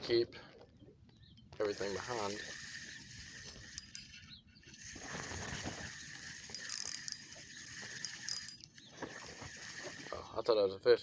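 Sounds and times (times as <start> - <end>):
fishing reel clicking and grinding: 1.6 - 10.4.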